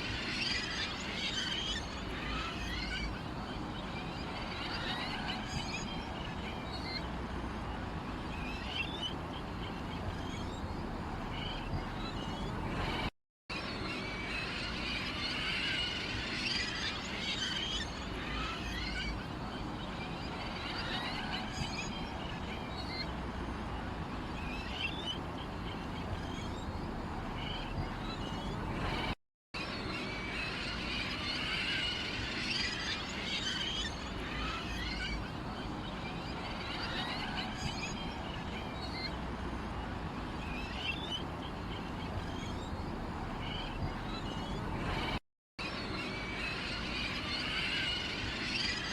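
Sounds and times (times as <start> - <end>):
outdoor background noise: 0.0 - 48.9
small birds chirping: 0.1 - 48.9.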